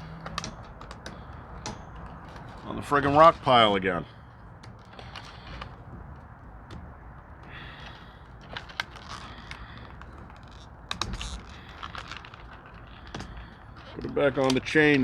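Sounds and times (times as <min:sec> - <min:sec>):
plastic packaging rustling: 0:00.0 - 0:15.0.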